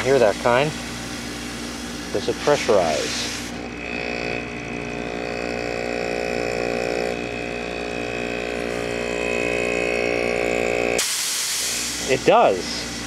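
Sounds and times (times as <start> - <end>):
air conditioner compressor humming and whining: 0.0 - 13.0.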